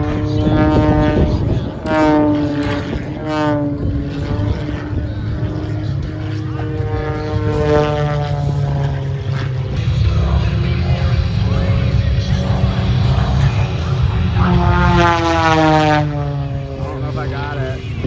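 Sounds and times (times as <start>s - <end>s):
low rumble: 0.0s - 18.0s
propeller airplane engine droning: 0.0s - 18.0s.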